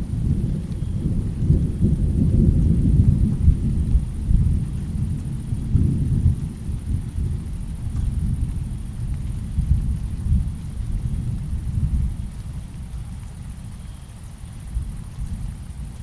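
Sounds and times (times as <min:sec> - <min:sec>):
low rolling thunder rumble: 0:00.0 - 0:16.0.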